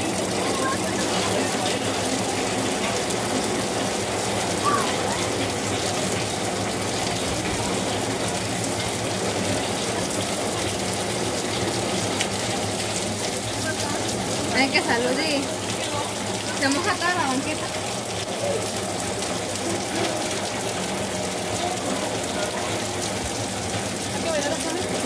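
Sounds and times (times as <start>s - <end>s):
heavy rain on flooded street: 0.0s - 25.0s.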